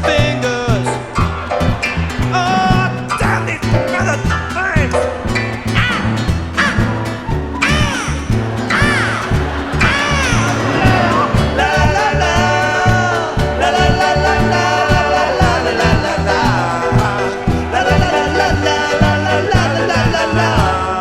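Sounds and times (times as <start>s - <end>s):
live band music: 0.0s - 21.0s
wordless sung vocals: 0.0s - 21.0s.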